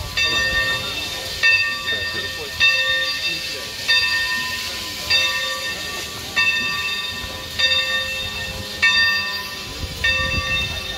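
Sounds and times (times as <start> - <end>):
steam locomotive bell ringing: 0.0 - 10.9.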